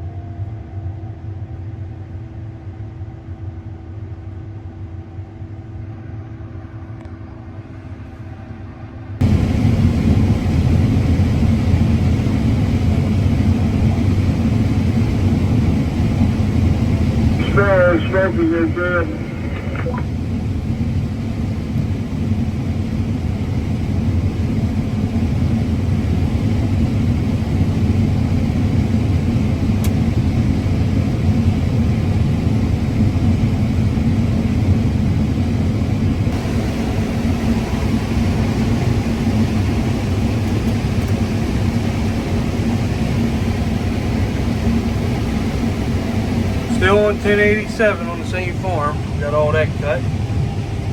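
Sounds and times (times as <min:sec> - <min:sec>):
combine harvester low drone: 0:08.0 - 0:50.9.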